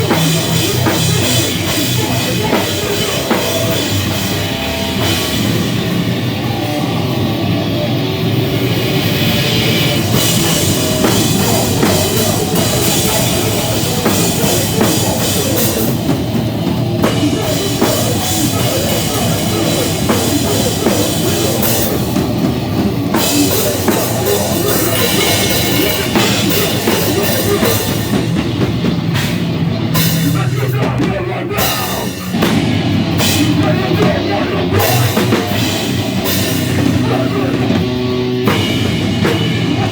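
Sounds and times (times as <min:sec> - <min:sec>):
bass guitar: 0:00.0 - 0:39.9
distorted guitar: 0:00.0 - 0:39.9
drum kit: 0:00.0 - 0:39.9.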